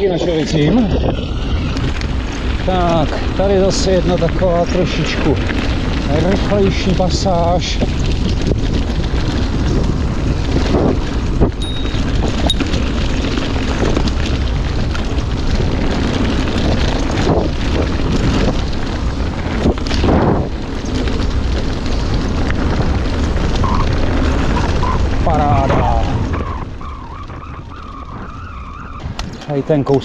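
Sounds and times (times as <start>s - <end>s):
tyres rumbling over dirt trail: 0.0s - 30.0s
wind buffeting microphone: 0.0s - 30.0s.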